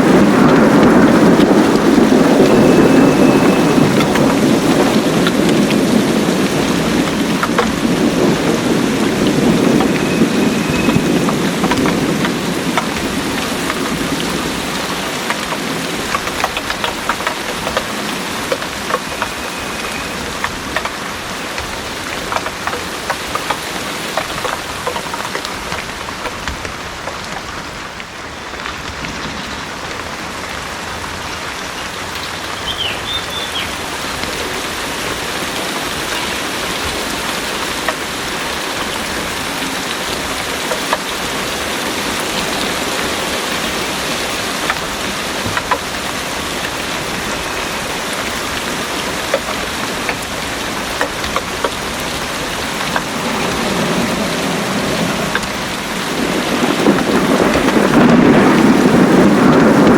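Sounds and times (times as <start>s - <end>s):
heavy rain pouring: 0.0s - 59.9s
thunder rumble: 0.0s - 59.9s.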